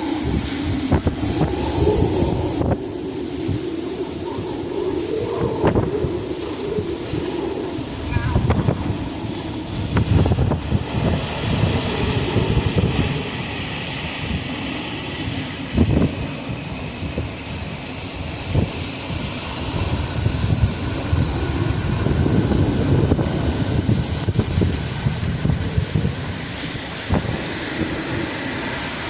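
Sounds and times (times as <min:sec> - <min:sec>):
hurricane wind buffeting microphone: 0:00.0 - 0:29.0.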